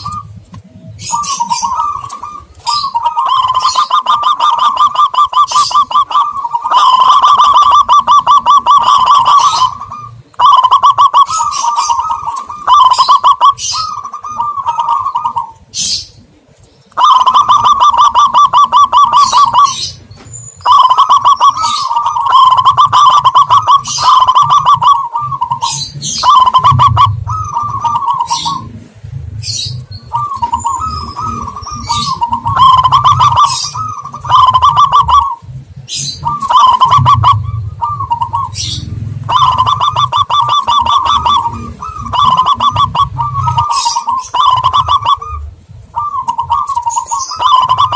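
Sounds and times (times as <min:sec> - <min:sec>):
higher chirps: 0:00.0 - 0:16.2, 0:16.9 - 0:47.9
doves cooing trilled phrases: 0:00.0 - 0:47.9.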